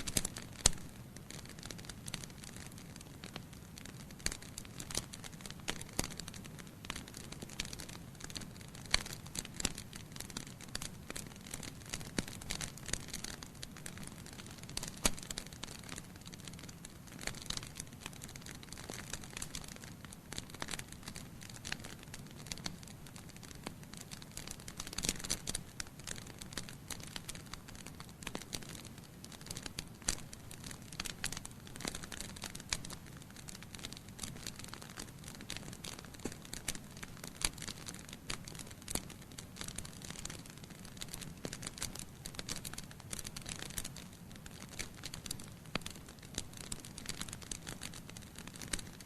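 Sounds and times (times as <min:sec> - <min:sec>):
burning logs popping and snapping: 0:00.0 - 0:49.0.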